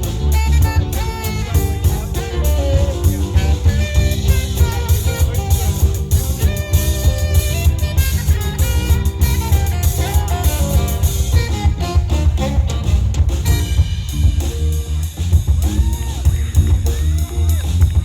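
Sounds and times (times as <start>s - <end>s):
drum kit: 0.0s - 18.0s
electric bass: 0.0s - 18.0s
funk band playing: 0.0s - 18.0s.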